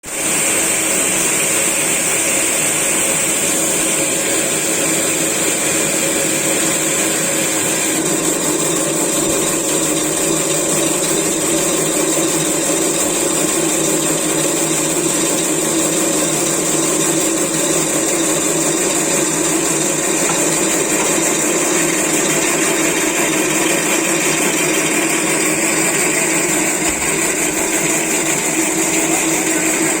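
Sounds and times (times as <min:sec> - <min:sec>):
electric winch motor whining: 0:00.1 - 0:30.0.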